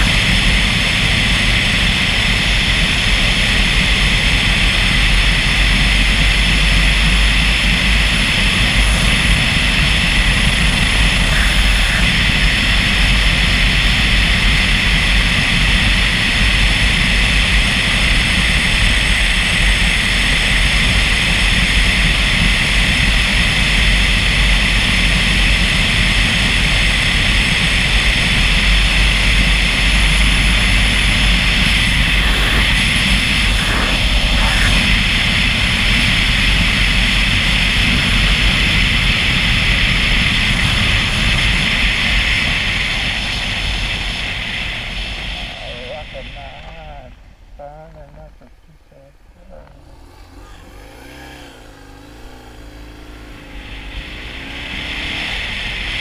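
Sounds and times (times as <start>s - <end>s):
car driving on road: 0.0s - 56.0s.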